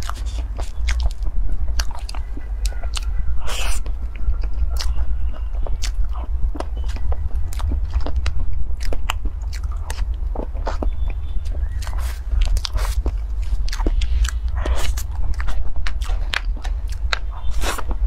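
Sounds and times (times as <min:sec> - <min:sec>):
steady low hum: 0:00.0 - 0:18.0
wet chewing and lip smacks: 0:00.0 - 0:18.0.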